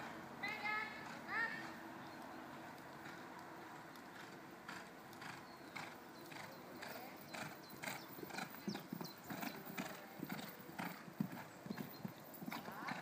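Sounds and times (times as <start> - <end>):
horse hooves cantering on sand: 0.4 - 13.0.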